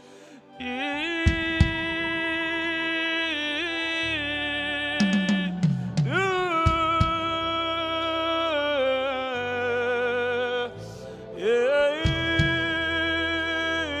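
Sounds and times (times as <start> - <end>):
person singing with vibrato: 0.0 - 14.0
sustained keyboard accompaniment: 0.0 - 14.0.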